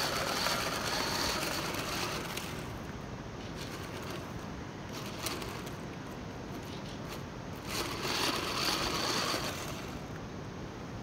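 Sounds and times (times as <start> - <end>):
electric motors whirring: 0.0 - 10.2
plastic tracks on wet asphalt: 0.0 - 10.2
faint outdoor hiss: 0.0 - 11.0.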